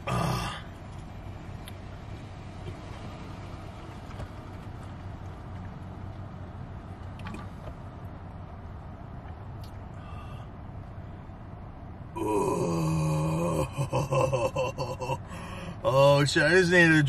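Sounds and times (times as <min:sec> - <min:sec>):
car engine drone: 0:00.0 - 0:17.0
road noise inside car: 0:00.0 - 0:17.0.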